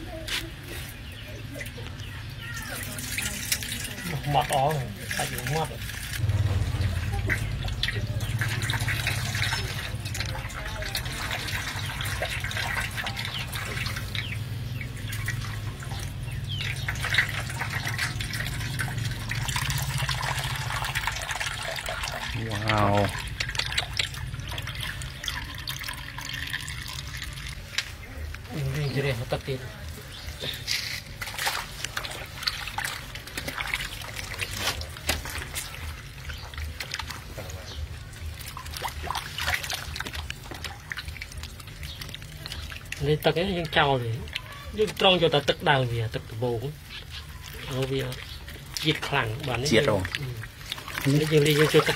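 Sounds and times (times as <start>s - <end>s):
wet squelches: 0.0s - 51.9s
liquid trickling into metal basin: 0.8s - 51.9s.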